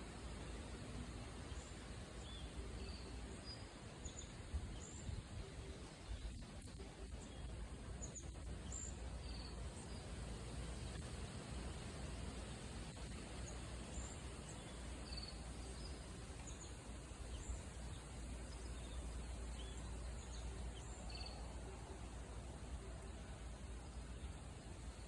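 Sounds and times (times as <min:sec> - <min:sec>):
steady even hiss: 0:00.0 - 0:25.0.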